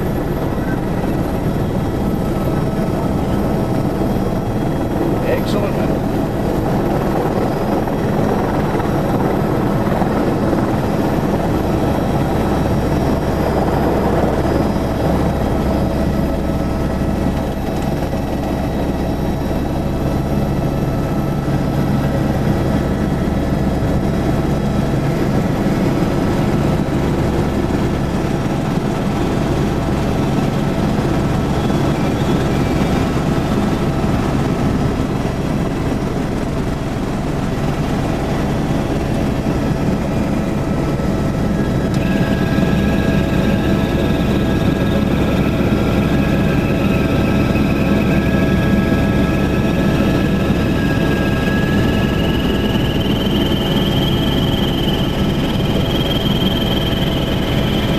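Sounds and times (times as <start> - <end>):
helicopter engine and rotor: 0.0 - 57.9.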